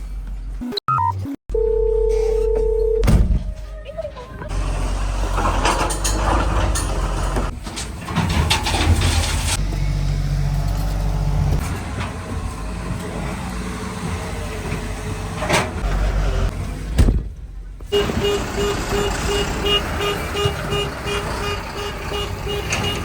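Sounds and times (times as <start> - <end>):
engine clatter and knocks: 3.1 - 23.0
diesel engine running: 3.9 - 23.0.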